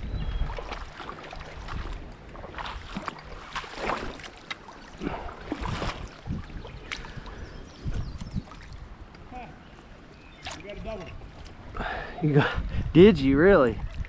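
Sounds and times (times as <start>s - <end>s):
creek water splashing: 0.3s - 12.4s, 13.6s - 14.0s.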